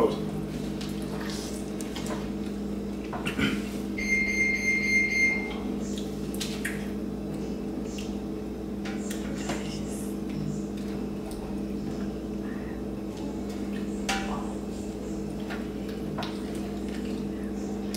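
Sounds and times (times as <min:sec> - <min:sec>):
electrical hum: 0:00.0 - 0:17.9.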